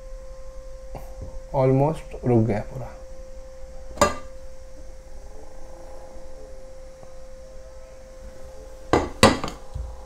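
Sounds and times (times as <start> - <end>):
electrical hum: 0.0 - 10.0
faint wavering whine: 0.0 - 10.0.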